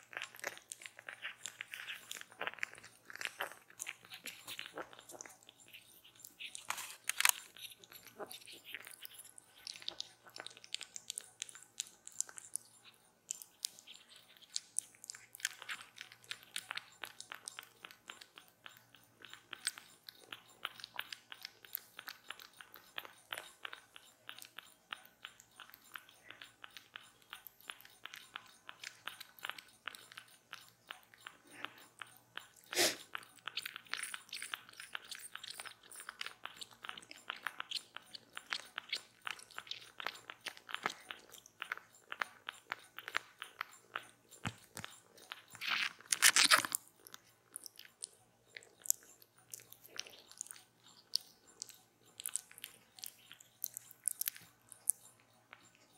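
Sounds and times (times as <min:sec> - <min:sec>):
kitten suckling from a bottle: 0:00.0 - 0:55.9.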